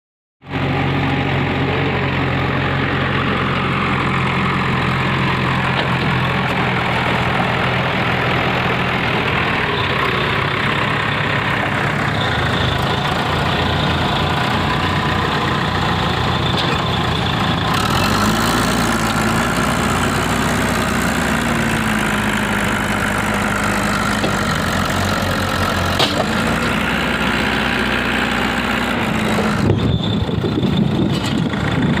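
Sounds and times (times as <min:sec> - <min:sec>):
heavy diesel engine running: 0:00.4 - 0:32.0.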